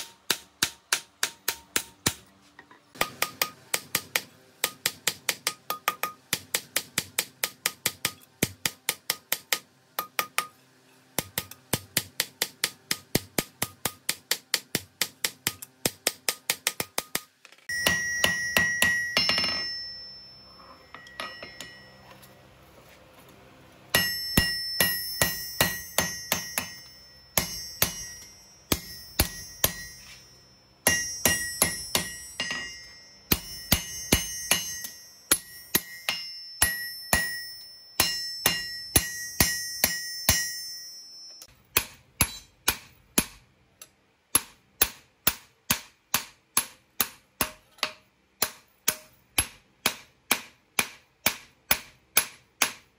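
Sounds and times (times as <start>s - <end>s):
hammer striking steel on anvil: 0.0s - 22.4s, 23.9s - 52.9s.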